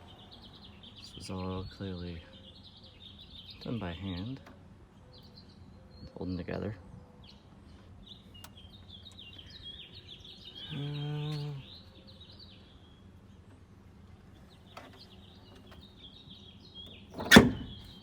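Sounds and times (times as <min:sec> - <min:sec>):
wild birds chirping: 0:00.0 - 0:18.0.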